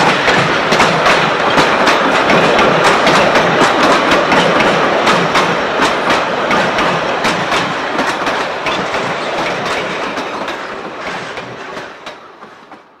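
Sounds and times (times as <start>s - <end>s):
train wheels clicking over rail joints: 0.0s - 13.0s.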